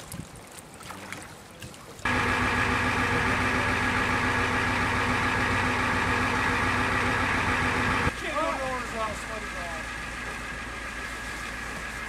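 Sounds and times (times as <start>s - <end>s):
fire engine idling: 2.1s - 12.0s.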